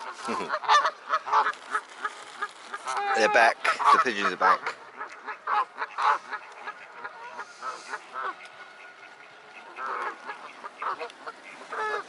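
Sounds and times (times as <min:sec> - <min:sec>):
flock of waterfowl calling: 0:00.0 - 0:12.0.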